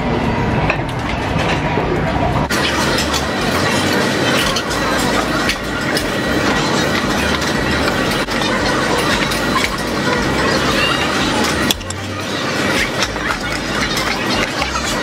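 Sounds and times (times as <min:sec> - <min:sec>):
faint hubbub of voices: 0:00.0 - 0:15.0
clatter of dishes: 0:02.5 - 0:15.0.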